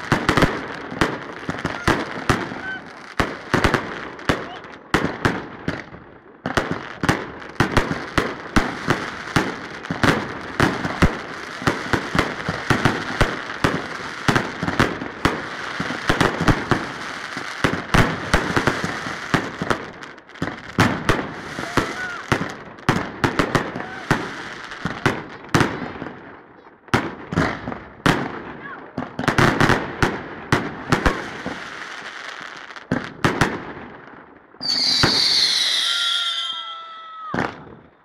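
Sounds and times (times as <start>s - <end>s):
fireworks crackling: 0.0s - 26.2s, 29.1s - 38.0s
fireworks bangs: 0.0s - 38.0s.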